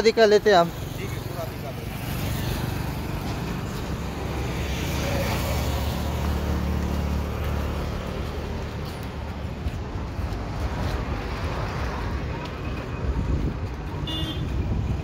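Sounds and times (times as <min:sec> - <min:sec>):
road traffic noise: 0:00.0 - 0:15.0
vehicle engine hum: 0:00.0 - 0:15.0.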